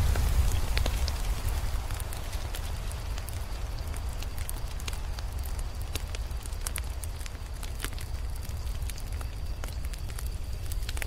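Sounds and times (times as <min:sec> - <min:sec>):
low rumble of flames: 0:00.0 - 0:11.0
wood fire crackling: 0:00.0 - 0:11.0.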